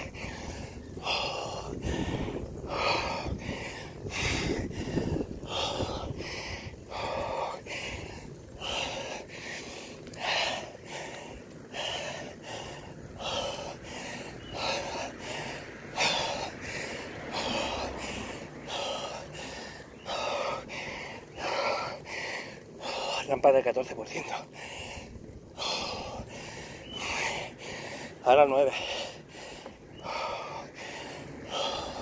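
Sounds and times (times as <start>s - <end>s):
person panting heavily: 0.0s - 23.4s, 24.2s - 32.0s.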